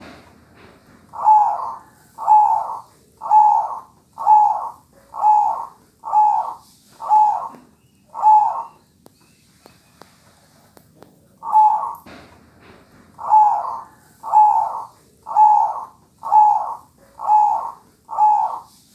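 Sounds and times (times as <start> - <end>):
dove cooing: 0.0 - 8.8, 11.4 - 12.2, 13.2 - 18.9.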